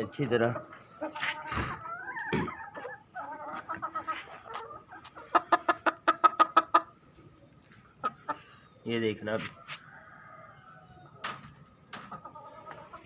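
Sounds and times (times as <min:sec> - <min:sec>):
chicken clucking: 0:00.0 - 0:13.0.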